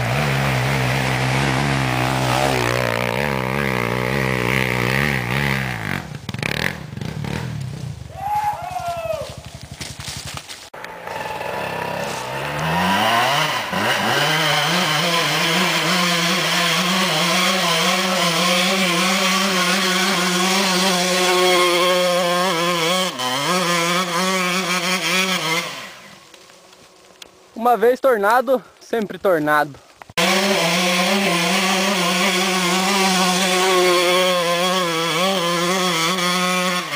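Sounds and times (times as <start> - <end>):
dirt bike engine revving: 0.0 - 8.1, 9.2 - 26.3, 30.2 - 36.9.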